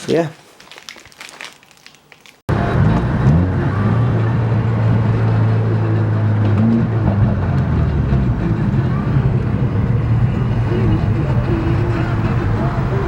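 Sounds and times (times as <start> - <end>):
car engine running: 2.5 - 13.0
road noise: 2.5 - 13.0.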